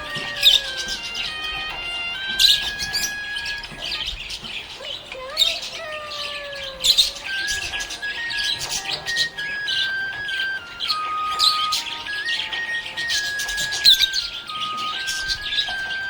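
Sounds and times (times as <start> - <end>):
music of long held notes: 0.0 - 4.5, 5.1 - 16.0
budgerigars chirping: 0.0 - 16.0.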